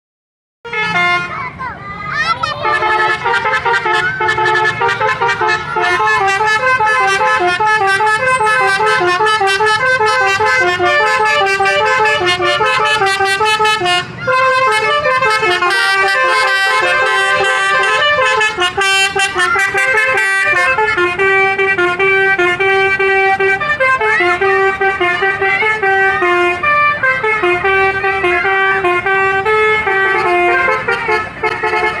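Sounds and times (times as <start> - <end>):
musical air horn tune: 0.6 - 1.4, 2.6 - 32.0.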